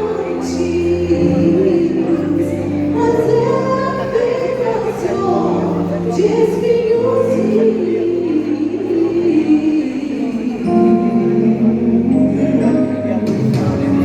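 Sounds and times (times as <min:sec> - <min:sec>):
vocal group singing a hymn: 0:00.0 - 0:14.0.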